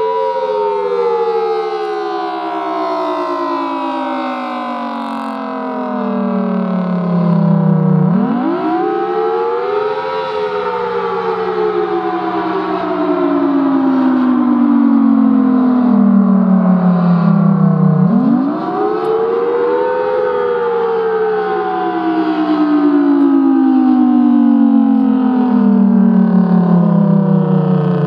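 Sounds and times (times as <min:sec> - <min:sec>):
storm siren rising and falling: 0:00.0 - 0:28.0.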